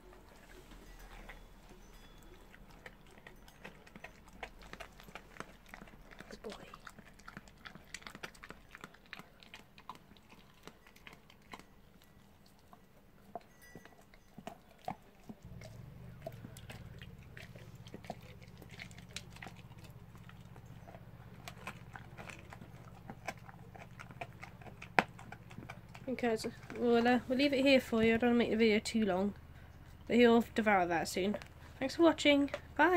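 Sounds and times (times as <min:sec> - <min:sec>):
low steady hum: 0:00.0 - 0:32.9
dog crunching on a bone: 0:00.1 - 0:27.1.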